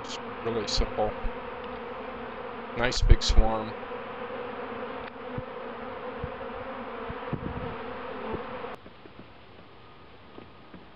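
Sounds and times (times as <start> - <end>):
bee swarm buzzing: 0.0 - 9.8.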